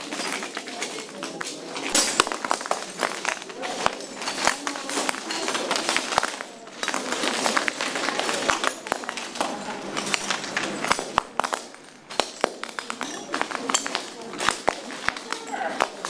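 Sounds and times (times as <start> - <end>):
footsteps crunching on broken tiles: 0.0 - 16.0.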